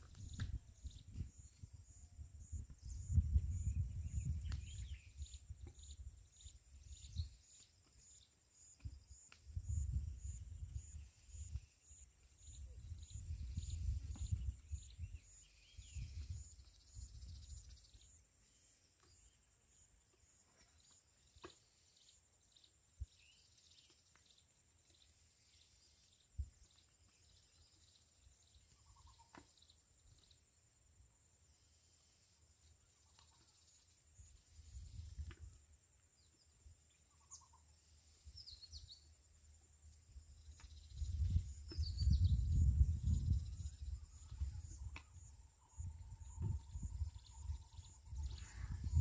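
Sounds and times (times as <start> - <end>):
bird chirp: 0.0 - 30.5, 31.6 - 49.0.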